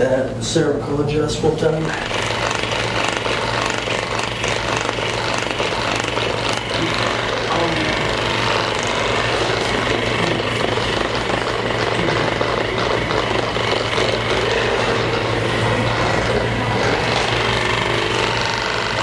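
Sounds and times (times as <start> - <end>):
massage gun hammering: 1.8 - 19.0.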